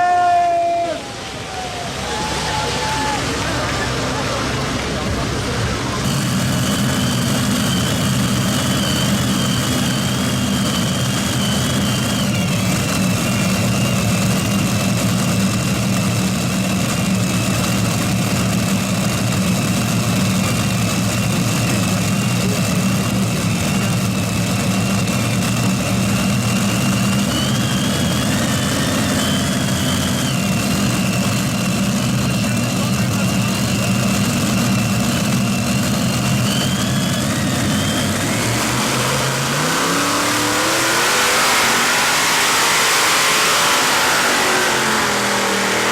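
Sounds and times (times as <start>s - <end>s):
gas turbine engine whining: 0.0s - 45.9s.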